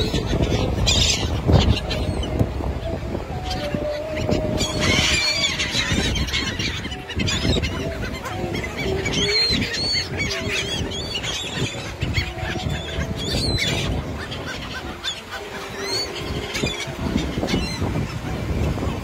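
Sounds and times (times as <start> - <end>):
gulls calling: 0.0 - 19.0
wind: 0.0 - 19.0.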